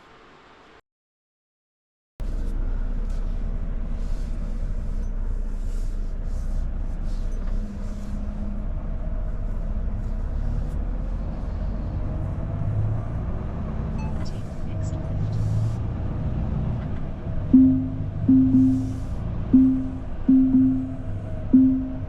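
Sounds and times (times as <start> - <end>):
truck engine and road rumble: 2.2 - 22.0.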